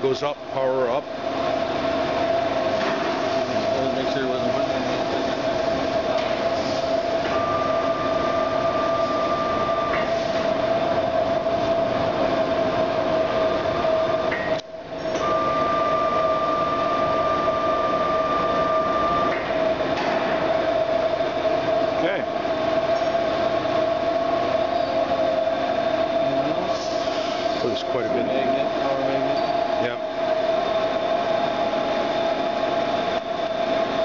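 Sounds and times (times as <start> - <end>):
high-pitched whine: 0.0 - 34.0.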